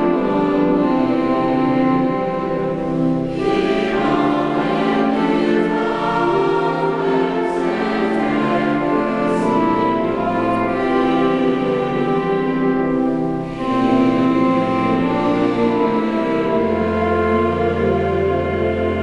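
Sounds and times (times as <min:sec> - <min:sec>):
choir singing in harmony: 0:00.0 - 0:19.0.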